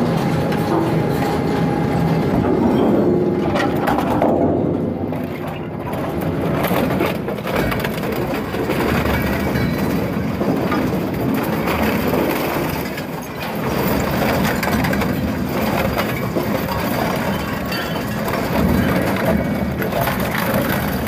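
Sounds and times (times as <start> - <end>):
industrial shredder crushing material: 0.0 - 21.0.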